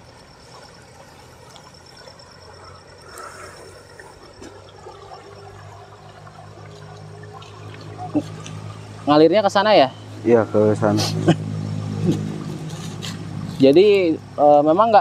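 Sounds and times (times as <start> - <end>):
water trickling over dam: 0.0 - 15.0.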